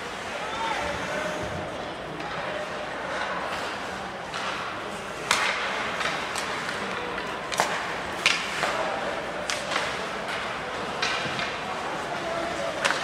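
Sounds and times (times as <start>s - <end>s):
steady arena hum: 0.0s - 13.0s
hockey sticks clacking on puck: 2.1s - 13.0s.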